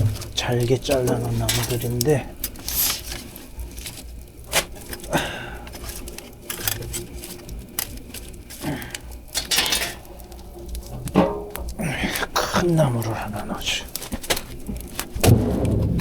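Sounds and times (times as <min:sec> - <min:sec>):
firewood knocking and clattering: 0:00.0 - 0:16.0.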